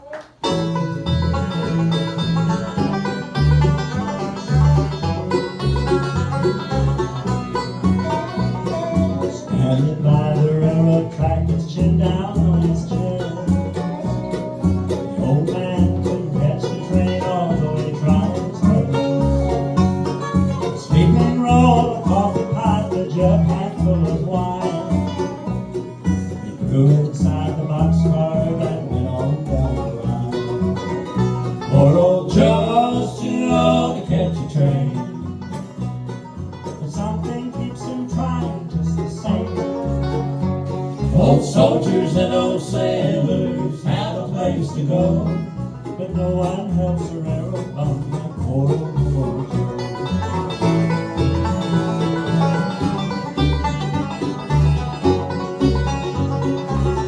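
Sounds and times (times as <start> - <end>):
banjo picking: 0.0 - 57.0
guitar picking: 0.3 - 57.0
steady bass line: 0.4 - 57.0.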